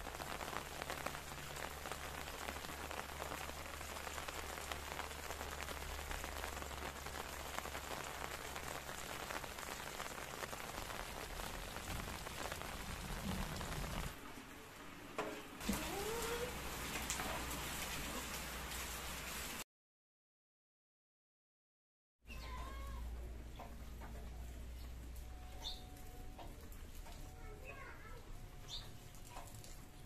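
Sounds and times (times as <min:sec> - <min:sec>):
steady rain falling: 0:00.0 - 0:19.6, 0:22.4 - 0:30.0.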